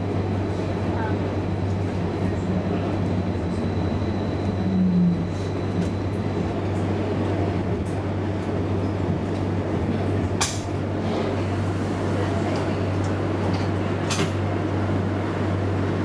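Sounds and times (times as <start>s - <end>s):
tram cabin hum: 0.0s - 16.0s.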